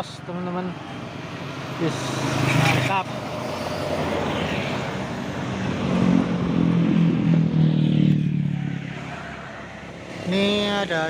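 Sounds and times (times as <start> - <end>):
diesel vehicle passing: 0.0 - 11.0
tyre and road noise: 0.0 - 11.0.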